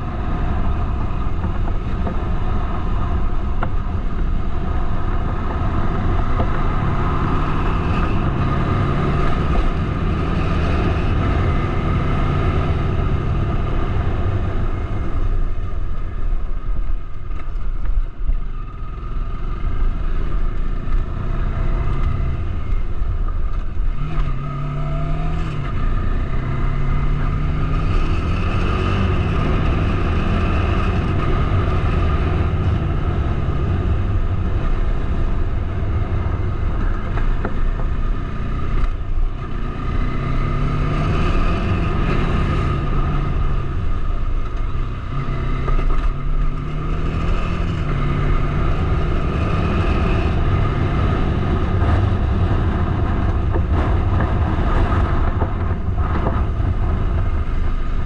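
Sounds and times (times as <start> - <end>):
motorcycle engine accelerating: 0.0 - 16.2, 18.5 - 58.0
low wind rumble: 0.0 - 58.0.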